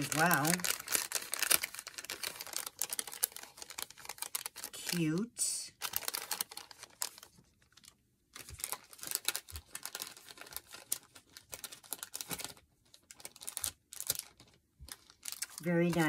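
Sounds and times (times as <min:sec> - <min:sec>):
plastic sleeve crinkling: 0:00.0 - 0:16.0.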